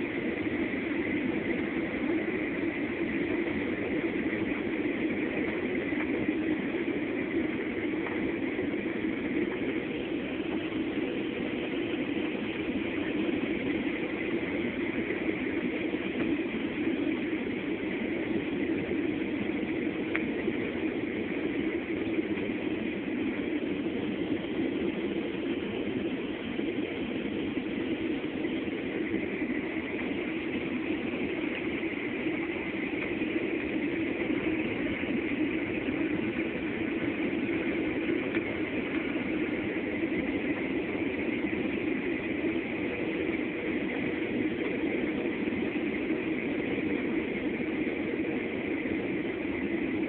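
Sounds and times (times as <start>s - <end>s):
airliner cabin jet engine rush: 0.0s - 50.0s.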